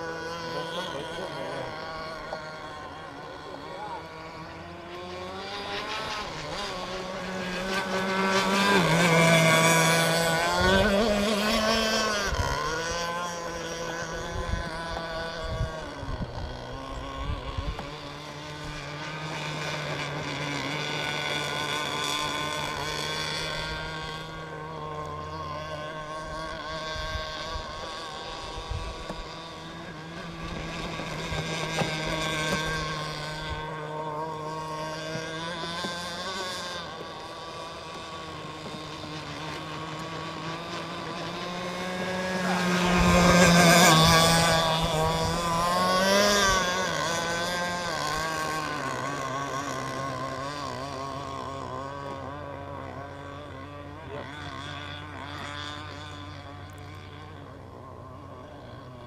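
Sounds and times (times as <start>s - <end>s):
model boat engine buzzing: 0.0s - 59.0s.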